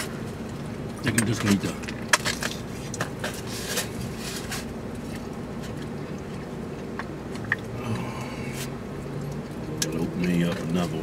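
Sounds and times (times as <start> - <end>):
low hum inside a car: 0.0 - 11.0.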